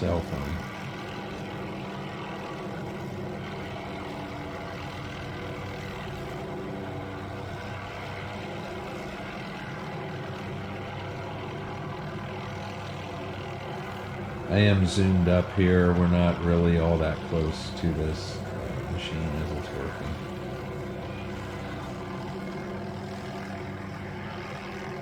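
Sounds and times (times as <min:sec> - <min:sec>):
distant helicopter drone: 0:00.0 - 0:25.0.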